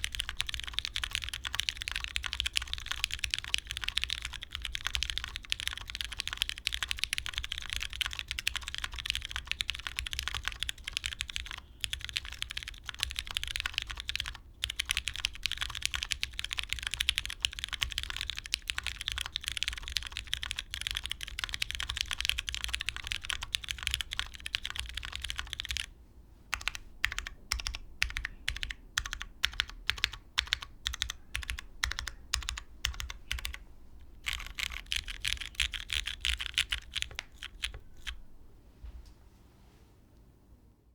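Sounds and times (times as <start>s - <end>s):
mechanical keyboard typing: 0.0s - 25.9s, 26.5s - 38.2s.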